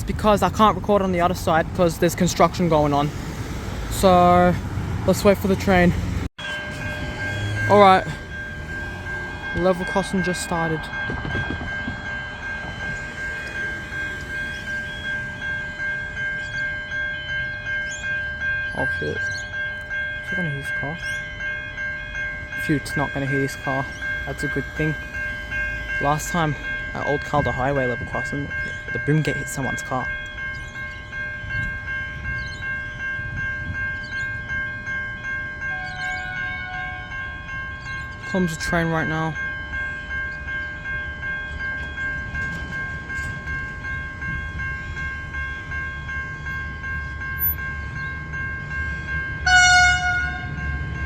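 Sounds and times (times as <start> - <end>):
level crossing bell ringing: 0.0 - 3.1, 3.9 - 51.0.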